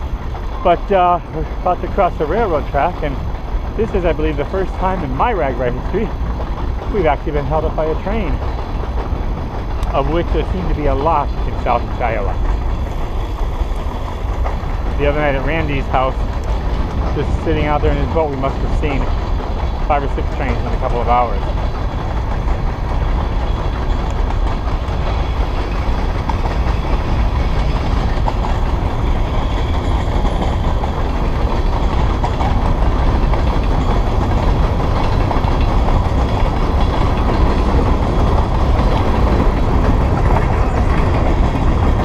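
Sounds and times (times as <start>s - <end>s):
freight train rumbling and rattling: 0.0s - 42.0s.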